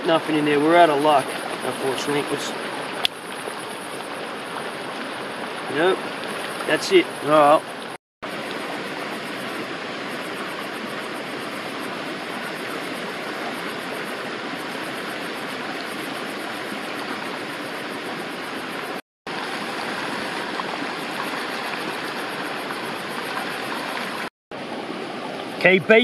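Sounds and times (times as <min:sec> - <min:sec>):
stream rushing water: 0:00.0 - 0:26.0.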